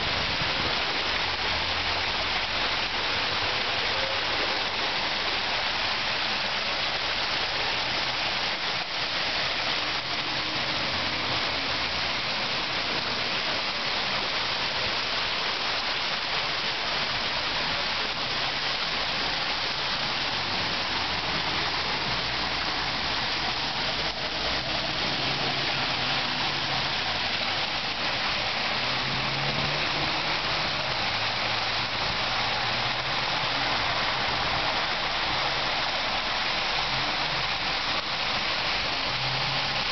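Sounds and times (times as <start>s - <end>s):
water falling and splashing: 0.0s - 39.9s.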